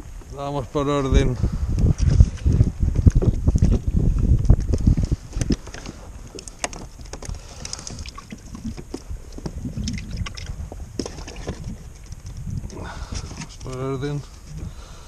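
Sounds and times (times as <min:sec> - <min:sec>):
wind: 0:00.0 - 0:15.0
clicks and knocks on kayak: 0:01.8 - 0:13.9
water: 0:01.8 - 0:15.0.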